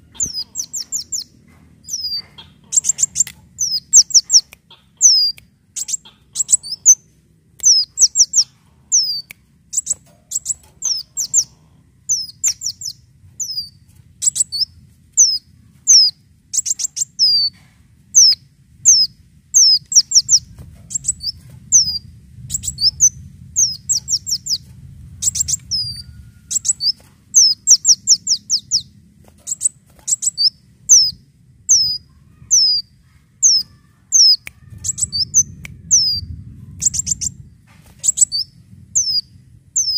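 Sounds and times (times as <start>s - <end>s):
bird chirping: 0.0s - 39.9s
faint low rumble: 0.0s - 39.9s.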